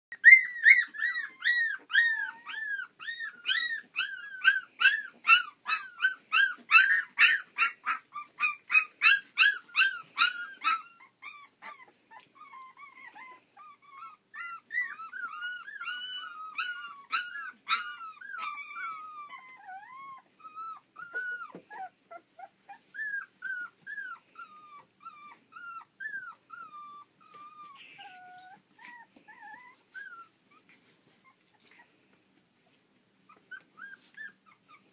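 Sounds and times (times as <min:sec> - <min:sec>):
puppies yelping: 0:00.1 - 0:31.9, 0:33.3 - 0:34.9
puppies whimpering and whining: 0:00.1 - 0:34.9.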